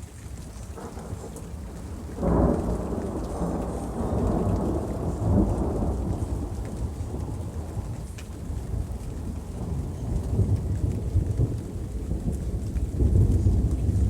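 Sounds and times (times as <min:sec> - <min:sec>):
rain falling: 0:00.0 - 0:14.0
thunder rumbling: 0:00.7 - 0:14.0.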